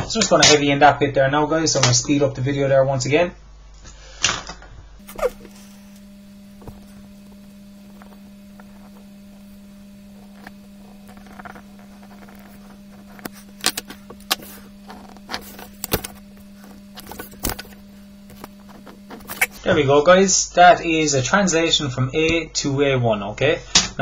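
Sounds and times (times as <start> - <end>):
steady low hum: 2.2 - 23.8.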